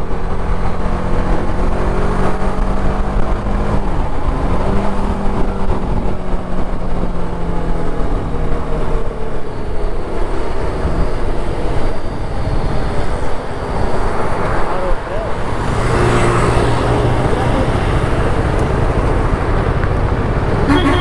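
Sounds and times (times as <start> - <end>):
wind and road rush: 0.0 - 21.0
motorcycle engine running: 2.6 - 21.0.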